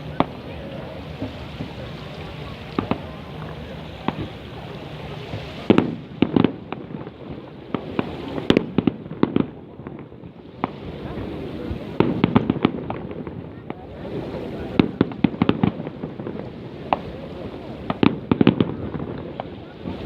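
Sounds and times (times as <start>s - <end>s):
fireworks banging and popping: 0.0s - 20.0s.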